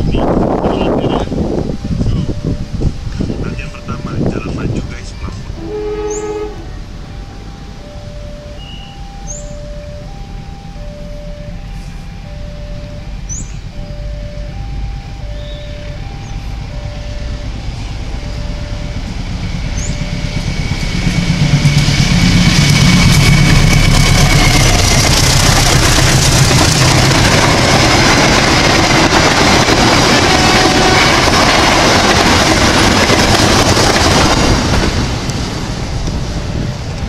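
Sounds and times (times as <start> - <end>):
locomotive engine drone: 0.0 - 37.0
train wheels rushing on rails: 0.0 - 37.0.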